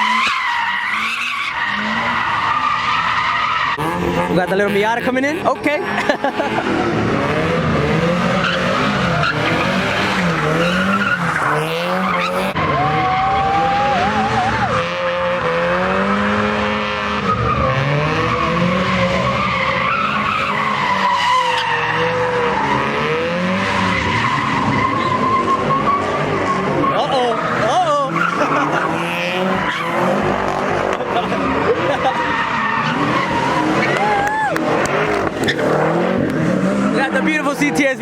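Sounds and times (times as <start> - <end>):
car engine revving: 0.0 - 38.0
tires squealing: 0.0 - 38.0.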